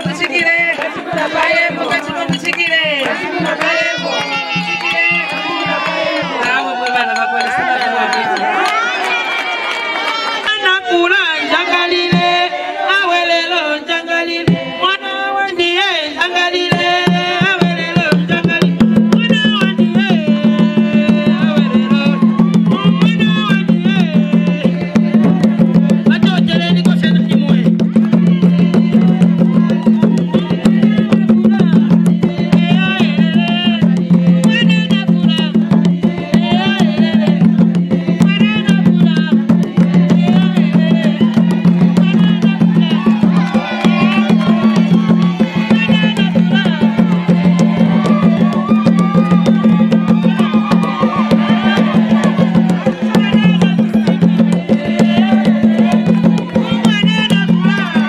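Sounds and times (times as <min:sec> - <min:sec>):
women singing: 0:00.0 - 0:04.5, 0:10.6 - 0:58.0
hand drums: 0:00.0 - 0:09.0, 0:16.5 - 0:58.0.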